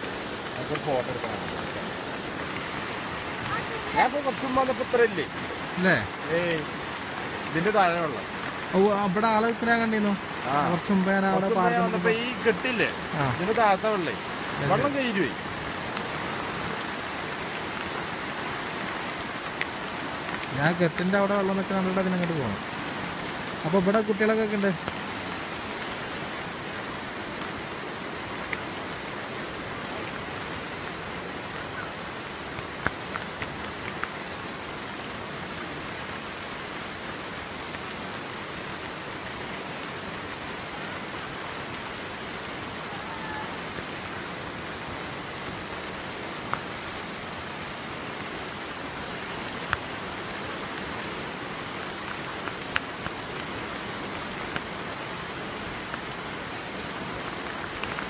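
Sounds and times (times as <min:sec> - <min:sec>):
flooded river rushing: 0:00.0 - 0:58.0
heavy rain hissing: 0:00.0 - 0:58.0.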